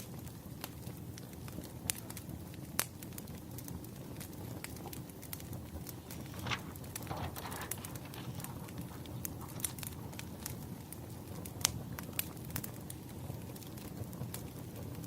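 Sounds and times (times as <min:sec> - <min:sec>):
flames rushing: 0:00.0 - 0:15.0
logs crackling and popping: 0:00.0 - 0:15.0.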